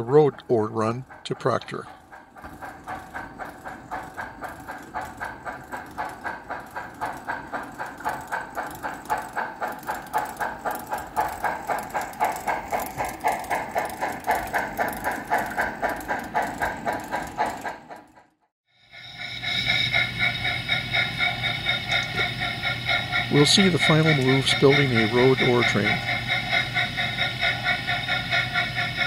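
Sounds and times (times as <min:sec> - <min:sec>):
model steam locomotive chuffing: 0:00.0 - 0:29.0.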